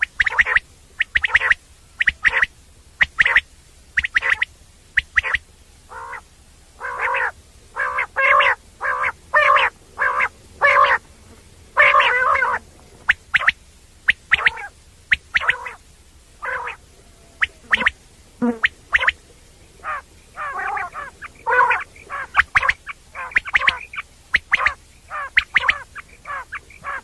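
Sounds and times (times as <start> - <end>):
quail calling: 0.0 - 27.0.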